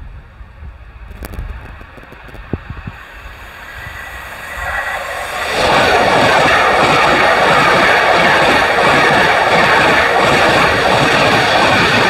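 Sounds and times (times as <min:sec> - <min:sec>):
train approaching at speed: 0:00.0 - 0:12.0
wind buffeting microphone: 0:00.0 - 0:12.0.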